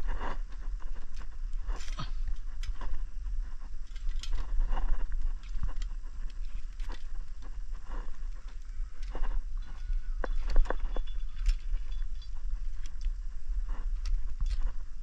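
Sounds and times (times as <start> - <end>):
cables rustling and clicking: 0.0 - 15.0
steady low rumble: 0.0 - 15.0.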